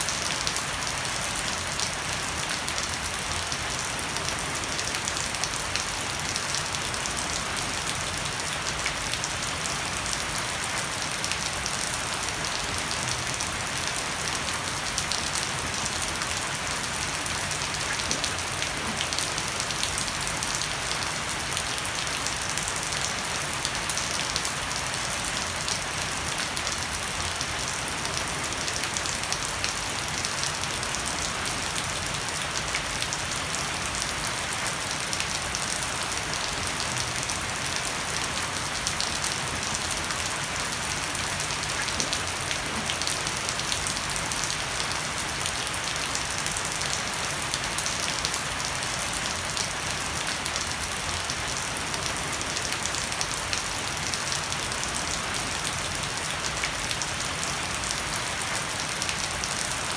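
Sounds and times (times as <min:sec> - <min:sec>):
heavy rain on wooden deck: 0:00.0 - 0:59.9.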